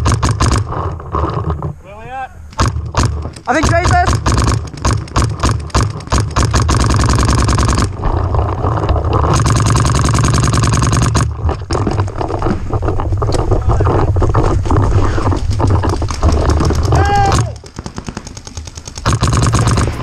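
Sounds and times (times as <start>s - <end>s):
paintball markers firing: 0.0s - 1.5s, 2.5s - 20.0s.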